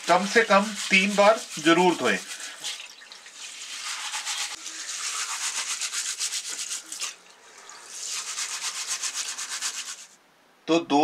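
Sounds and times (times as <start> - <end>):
wet grains rubbed in water: 0.0 - 7.2, 7.8 - 10.2.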